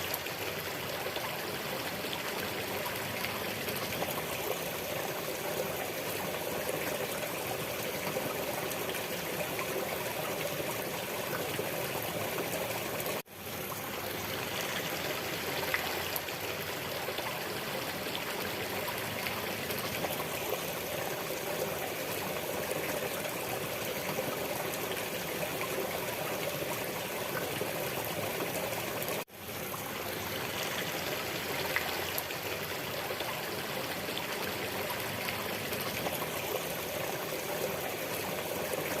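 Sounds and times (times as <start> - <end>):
stream running water: 0.0 - 39.0.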